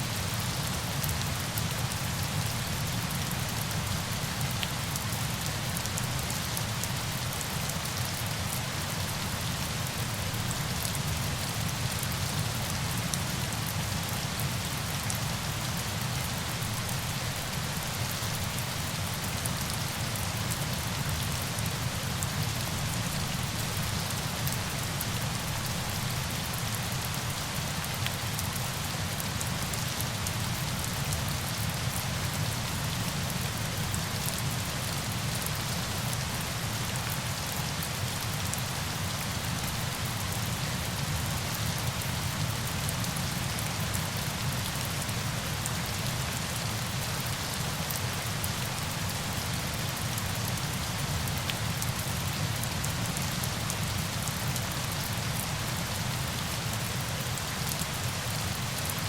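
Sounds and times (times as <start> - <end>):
rush of falling water: 0.0 - 59.0.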